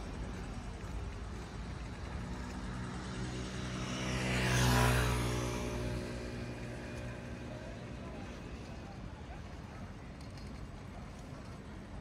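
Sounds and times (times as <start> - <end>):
city traffic hum: 0.0 - 12.0
motor scooter passing: 0.1 - 12.0.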